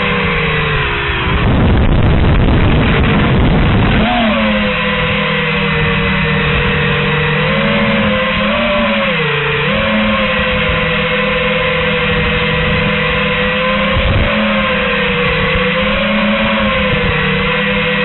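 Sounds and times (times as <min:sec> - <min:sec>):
drone motors buzzing whine: 0:00.0 - 0:18.0
rush of air and propellers: 0:00.0 - 0:18.0.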